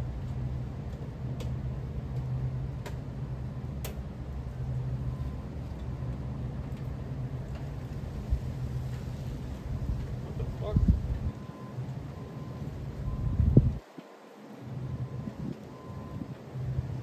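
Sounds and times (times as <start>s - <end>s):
low machine hum: 0.0s - 13.8s.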